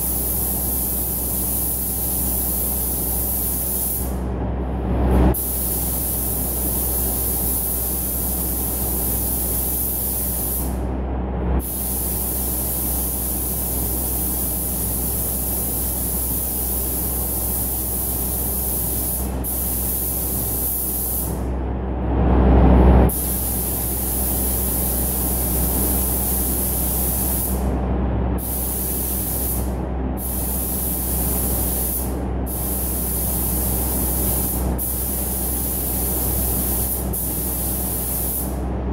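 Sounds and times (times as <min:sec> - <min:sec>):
paint spray gun hissing: 0:00.0 - 0:04.1, 0:05.4 - 0:10.7, 0:11.6 - 0:21.3, 0:23.1 - 0:27.6, 0:28.4 - 0:38.6.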